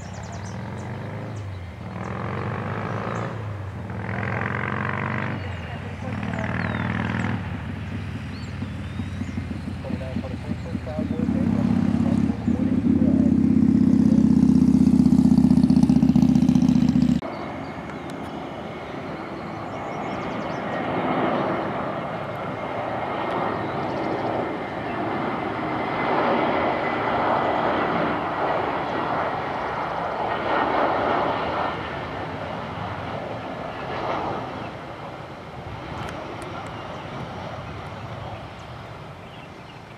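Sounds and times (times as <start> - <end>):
loud low hum: 0.0 - 39.2
jet engines whining: 0.0 - 39.9.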